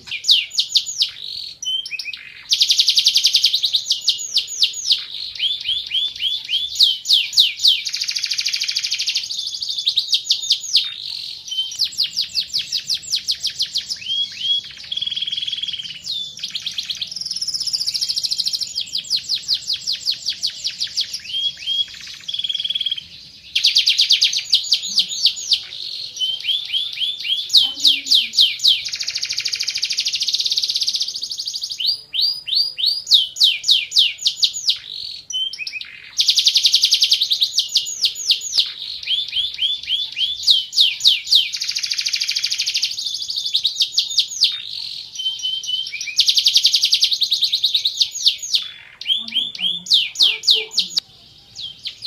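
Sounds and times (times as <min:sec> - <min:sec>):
canary singing trills and whistles: 0:00.0 - 0:52.0.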